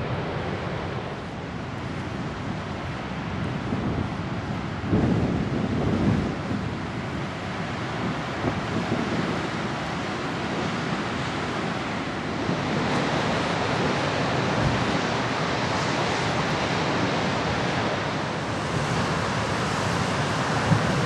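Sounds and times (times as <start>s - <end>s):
ocean surf rushing: 0.0s - 21.0s.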